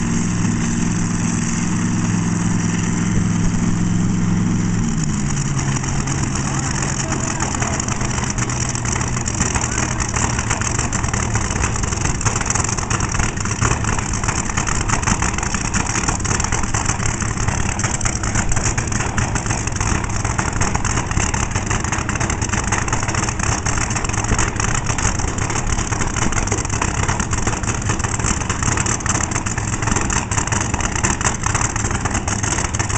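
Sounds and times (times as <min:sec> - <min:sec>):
drag car engines cackling: 0:00.0 - 0:32.9.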